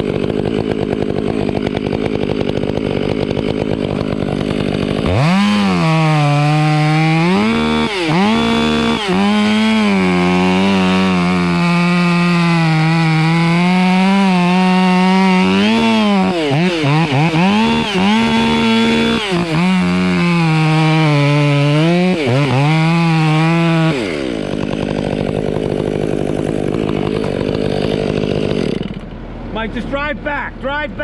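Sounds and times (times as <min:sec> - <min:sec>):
chainsaw cutting wood: 0:00.0 - 0:30.8.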